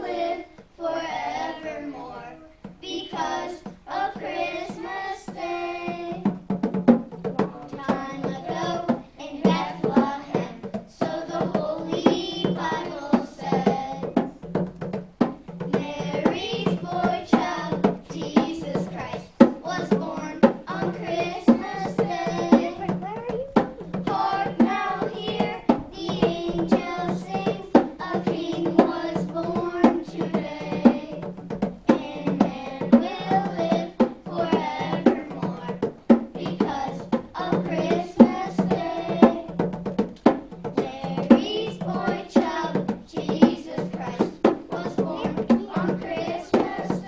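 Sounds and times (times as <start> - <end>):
children singing together: 0.0 - 6.5, 7.2 - 14.5, 15.2 - 23.0, 23.6 - 47.0
steady drum beat: 0.0 - 47.0.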